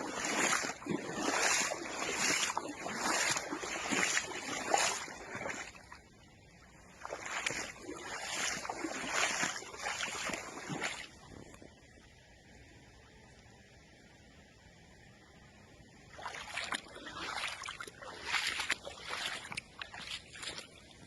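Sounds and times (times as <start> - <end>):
rough wind-driven water: 0.0 - 12.2, 16.0 - 21.0.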